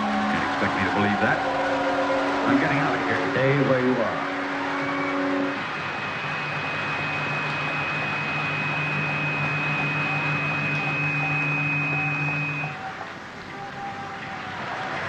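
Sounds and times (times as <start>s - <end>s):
low hum with thin high tone: 0.0s - 12.8s
noisy hum with held tones: 0.0s - 15.0s.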